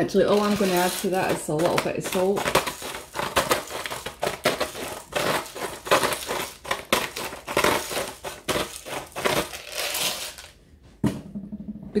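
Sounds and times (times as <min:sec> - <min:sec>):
salt grinder grinding: 0:00.1 - 0:10.5.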